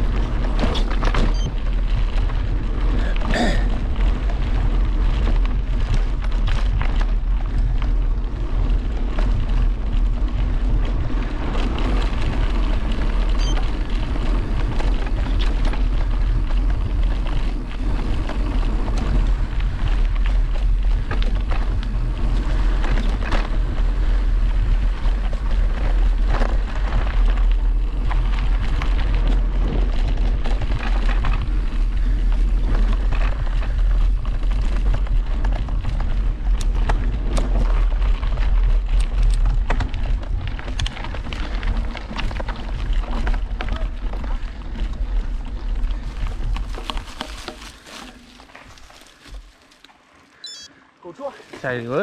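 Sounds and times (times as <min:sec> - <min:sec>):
wind rumbling over microphone: 0:00.0 - 0:49.7
bike rattling over bumps: 0:00.0 - 0:52.0.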